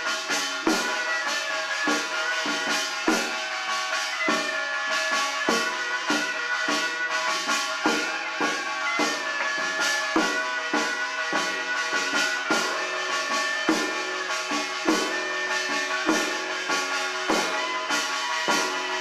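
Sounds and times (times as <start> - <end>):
drum strokes: 0.0 - 19.0
long held melodic tones: 0.0 - 19.0.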